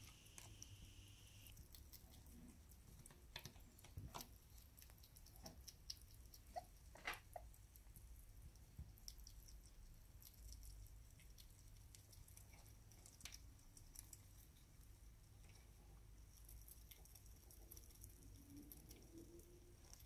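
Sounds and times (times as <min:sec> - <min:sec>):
room hum: 0:00.0 - 0:20.0
small animal chewing clicks: 0:00.0 - 0:20.0.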